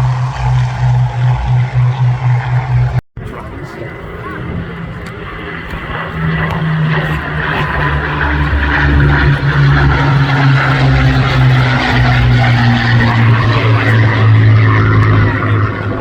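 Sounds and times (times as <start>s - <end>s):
propeller planes droning overhead: 0.0s - 16.0s.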